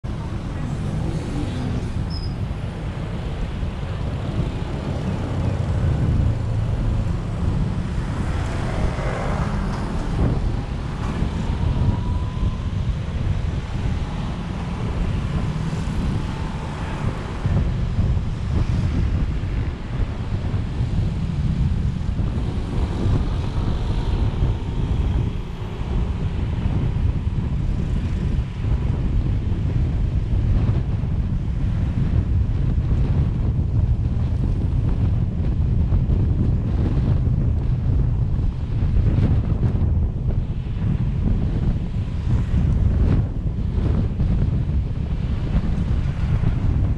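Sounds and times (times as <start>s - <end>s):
low rumble: 0.0s - 46.9s
road and traffic noise: 0.0s - 46.9s
wind buffeting microphone: 0.0s - 46.9s.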